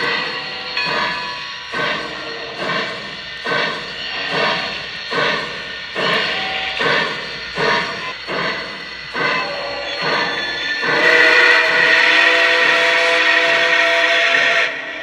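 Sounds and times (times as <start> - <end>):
model train steam chuffs: 0.0 - 15.0.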